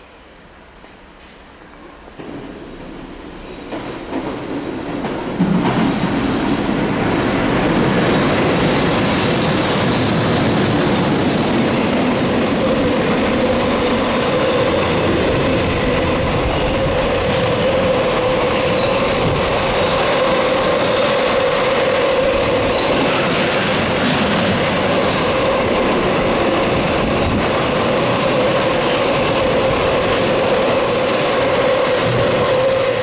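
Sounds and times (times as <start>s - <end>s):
train passing with rumble: 0.0s - 33.0s
train wheel clatter: 2.2s - 33.0s.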